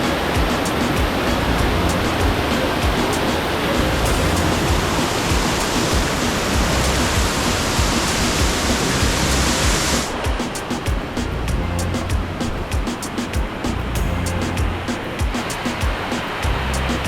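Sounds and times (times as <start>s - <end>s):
music with steady beat: 0.0s - 17.0s
waterfall rushing: 0.0s - 17.0s.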